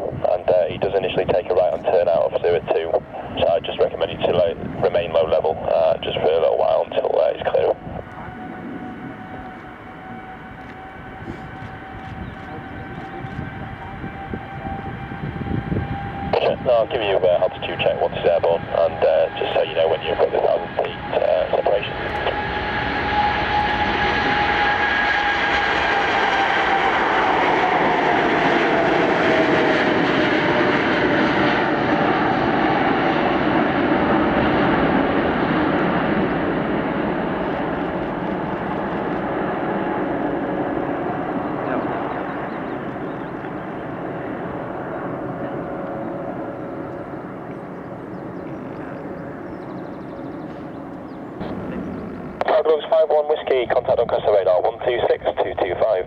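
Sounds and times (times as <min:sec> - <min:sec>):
jet engines roaring on takeoff: 0:00.0 - 0:56.0.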